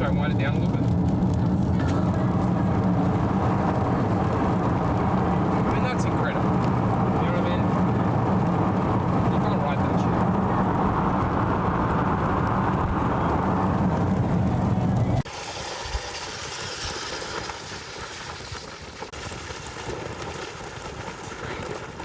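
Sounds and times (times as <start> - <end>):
road and wind noise in car: 0.0 - 22.0.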